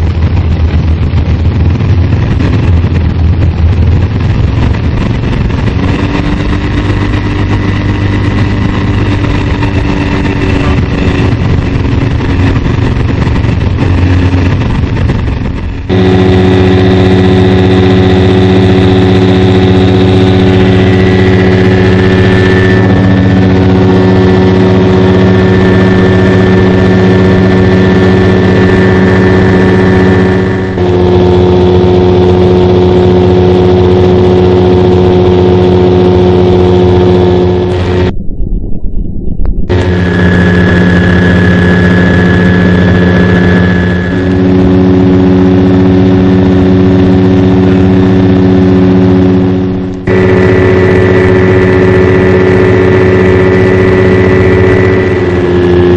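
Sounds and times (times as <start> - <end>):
light aircraft engine droning: 0.0 - 55.9.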